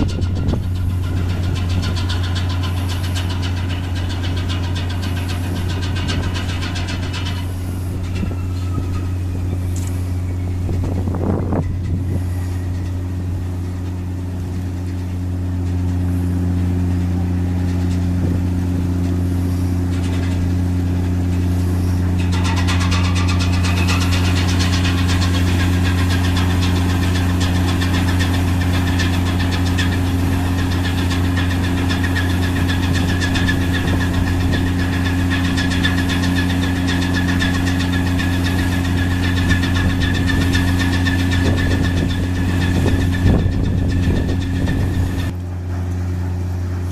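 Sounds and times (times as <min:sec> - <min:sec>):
diesel engine drone: 0:00.0 - 0:46.9.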